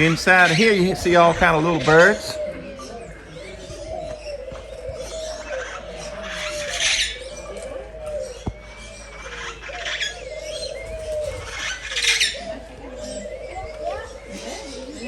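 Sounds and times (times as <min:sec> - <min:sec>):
birds making gliding calls: 0:00.0 - 0:15.0
harsh bird squawk: 0:00.0 - 0:15.0.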